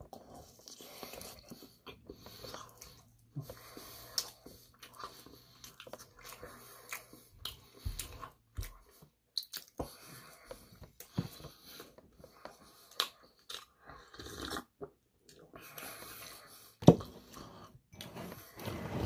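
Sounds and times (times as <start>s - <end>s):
person chewing: 0.0s - 16.5s.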